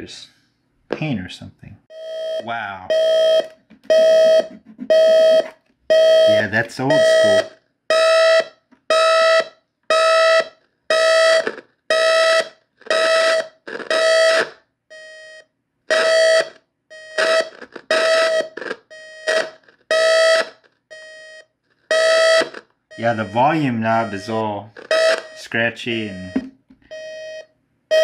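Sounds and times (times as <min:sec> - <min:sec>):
alarm clock buzzing beeps: 0:01.9 - 0:28.0.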